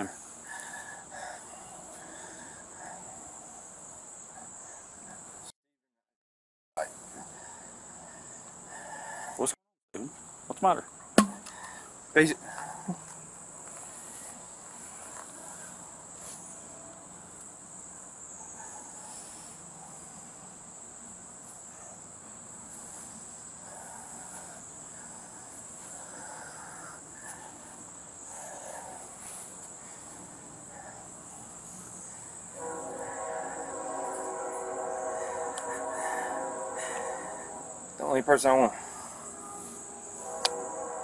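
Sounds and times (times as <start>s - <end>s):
insects trilling: 0.0s - 5.5s, 6.8s - 41.0s.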